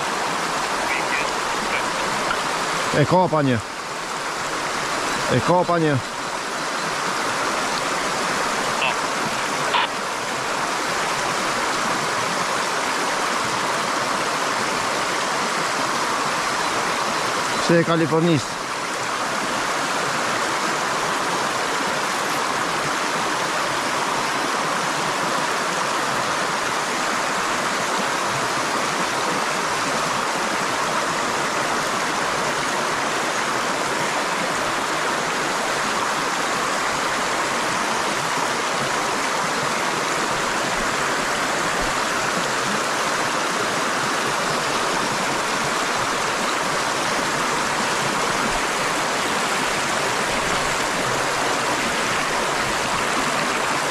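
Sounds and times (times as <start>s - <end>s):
river water rushing over stones: 0.0s - 53.9s.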